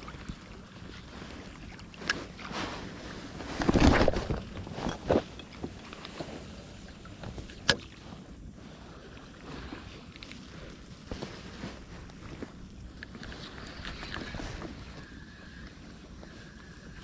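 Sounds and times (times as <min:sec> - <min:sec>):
seawater sloshing against rocks: 0:00.0 - 0:17.0
wind on microphone: 0:00.0 - 0:17.0.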